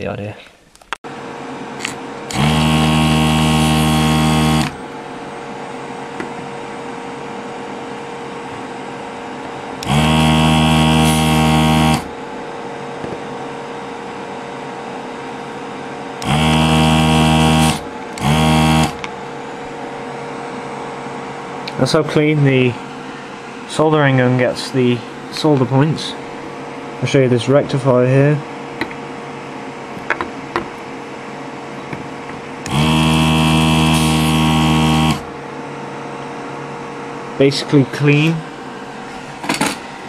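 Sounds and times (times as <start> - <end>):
steady hum: 0.0 - 40.0
vacuum pump bursts: 1.8 - 12.4, 15.5 - 29.3, 31.5 - 40.0.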